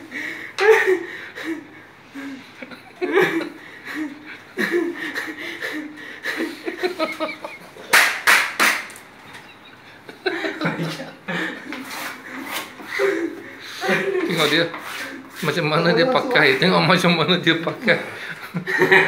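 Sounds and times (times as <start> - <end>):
people laughing: 0.6 - 8.0, 9.1 - 14.8, 15.8 - 19.0.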